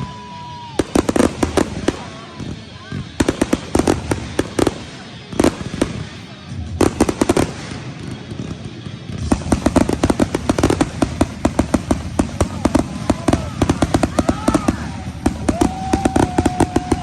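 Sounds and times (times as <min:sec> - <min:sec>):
fireworks bursting with bangs: 0:00.0 - 0:17.0.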